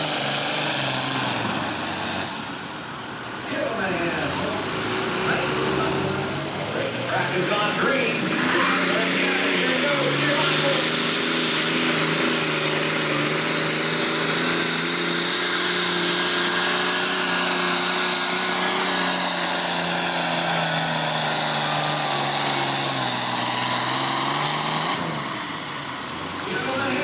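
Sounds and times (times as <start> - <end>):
diesel tractor engine at high revs: 0.0 - 27.0.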